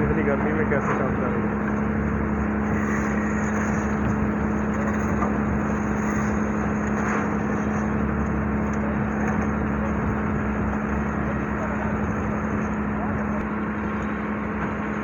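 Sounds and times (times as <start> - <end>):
engine-driven machine droning: 0.0 - 15.0.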